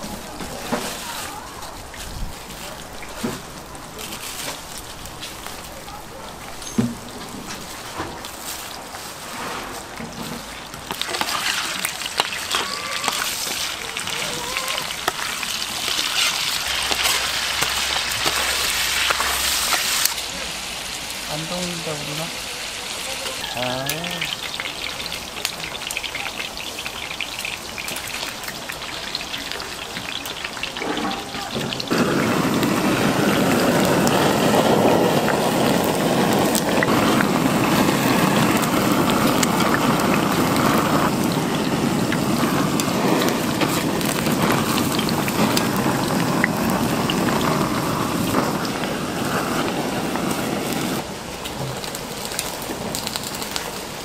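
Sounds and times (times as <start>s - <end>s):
meat sizzling on a grill: 0.0s - 54.0s.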